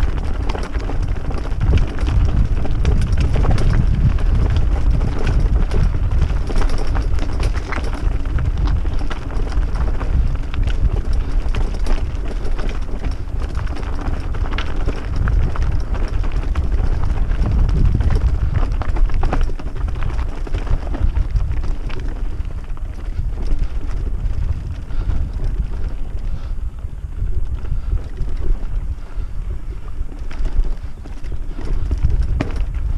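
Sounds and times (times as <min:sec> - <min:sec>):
bike rattling over loose stones: 0:00.0 - 0:32.9
wind buffeting microphone: 0:00.0 - 0:32.9.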